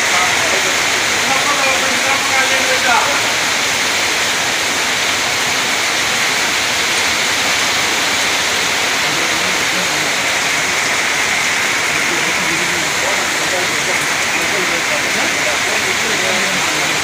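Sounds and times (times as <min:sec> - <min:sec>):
heavy rain pouring: 0:00.0 - 0:17.0
runoff splashing off roof: 0:00.0 - 0:17.0.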